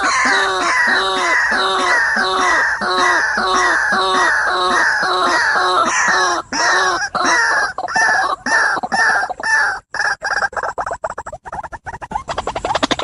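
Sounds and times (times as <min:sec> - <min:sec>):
waterhen croaking calls: 0:00.0 - 0:13.0.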